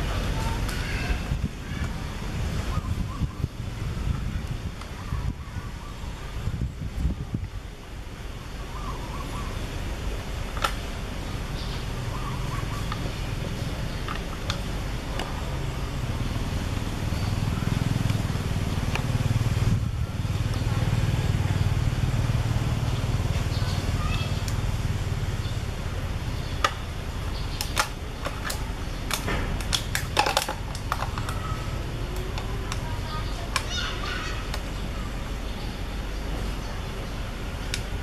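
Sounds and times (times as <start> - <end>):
passing vehicle engine rumble: 0.0 - 38.0.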